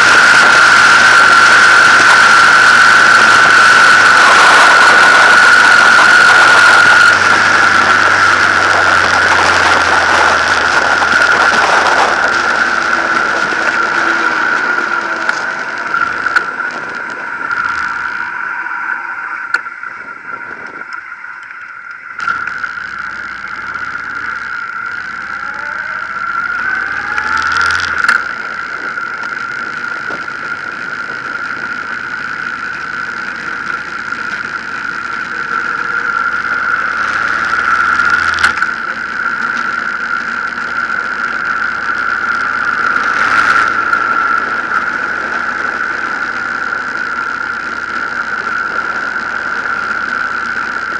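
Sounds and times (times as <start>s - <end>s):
motorcycle engine: 0.0s - 50.9s
road noise: 0.0s - 50.9s
steady high whine: 0.0s - 50.9s
wind noise: 0.0s - 50.9s.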